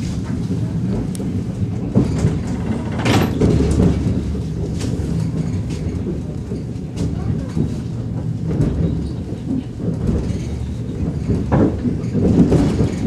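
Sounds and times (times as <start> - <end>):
train running rumble: 0.0 - 13.0
wheels knocking and rattling: 0.0 - 13.0.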